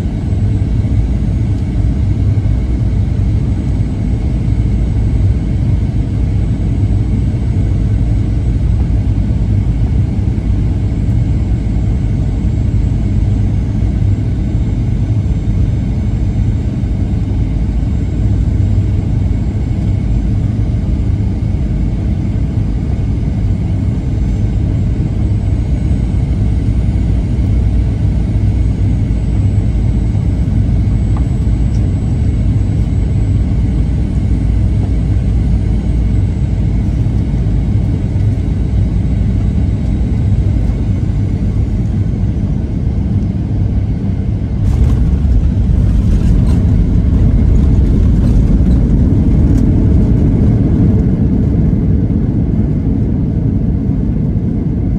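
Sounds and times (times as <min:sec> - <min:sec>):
airflow over fuselage: 0:00.0 - 0:54.9
jet engines rumbling: 0:00.0 - 0:54.9.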